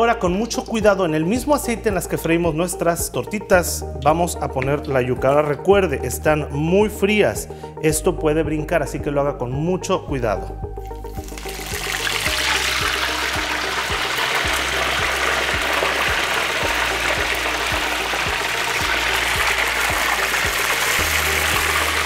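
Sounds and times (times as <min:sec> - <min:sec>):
music with steady beat: 0:00.0 - 0:22.0.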